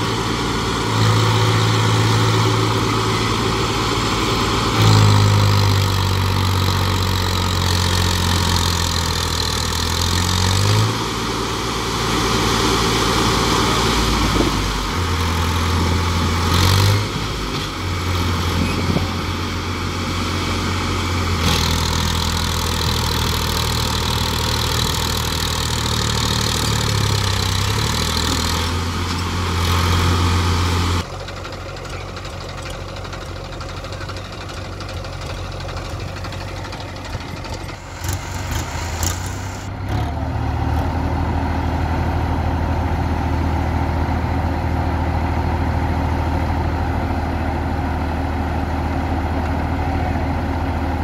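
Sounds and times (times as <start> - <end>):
diesel engines running under load: 0.0 - 51.0.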